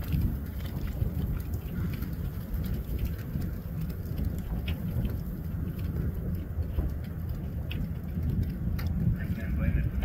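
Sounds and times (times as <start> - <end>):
faint crackles: 0.0 - 10.0
wind buffeting microphone: 0.0 - 10.0.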